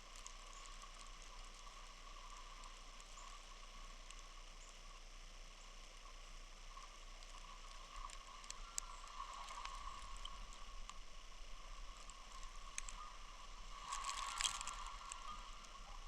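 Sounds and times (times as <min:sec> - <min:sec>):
light ticks: 0:00.0 - 0:16.0
snowstorm hiss: 0:00.0 - 0:16.0.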